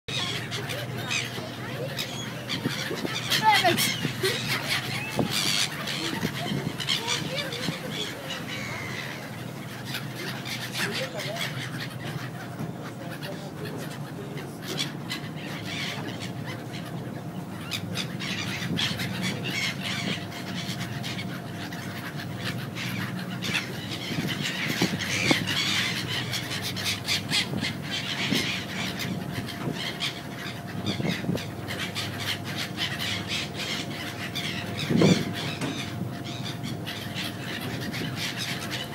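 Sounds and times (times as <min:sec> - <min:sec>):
birds chirping rapidly: 0:00.1 - 0:38.9.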